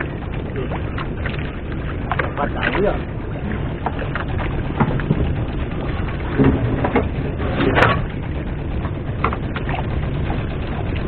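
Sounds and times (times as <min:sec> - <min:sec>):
small boat at sea: 0:00.0 - 0:11.0
wind rumble: 0:00.0 - 0:11.0.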